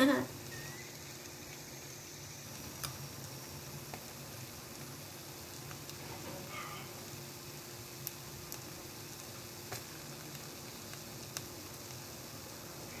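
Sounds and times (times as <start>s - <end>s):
egg sizzling in waffle maker: 0.0s - 13.0s.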